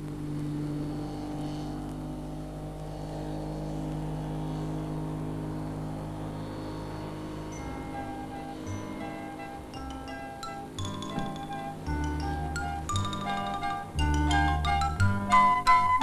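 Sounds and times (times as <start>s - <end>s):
car engine hum: 0.0s - 16.0s.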